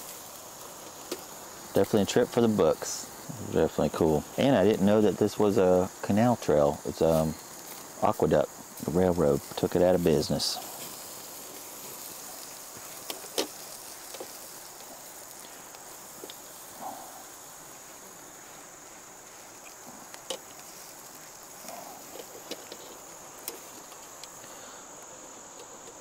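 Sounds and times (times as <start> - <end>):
insect chorus drone: 0.0 - 26.0
wood fire crackling: 0.0 - 26.0.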